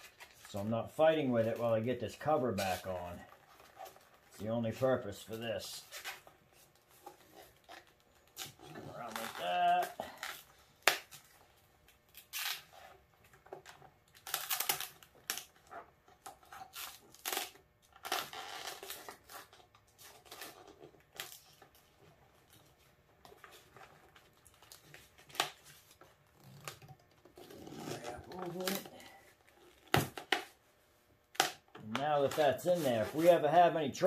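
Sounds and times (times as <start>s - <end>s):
rustling and crinkling of tape: 0.0s - 34.0s.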